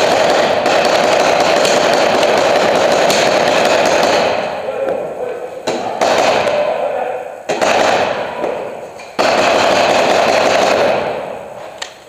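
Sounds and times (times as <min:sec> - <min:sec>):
rapid paintball marker fire: 0:00.0 - 0:04.6, 0:05.6 - 0:06.7, 0:07.5 - 0:12.0.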